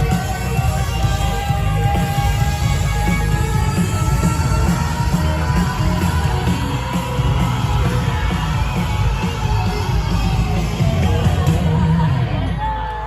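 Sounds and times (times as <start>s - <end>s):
loud rock music with singing: 0.0s - 13.0s.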